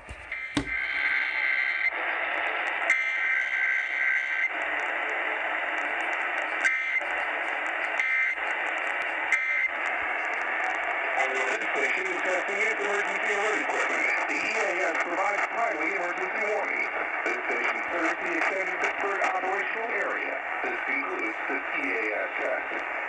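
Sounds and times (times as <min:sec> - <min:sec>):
radio static hiss: 0:00.1 - 0:23.0.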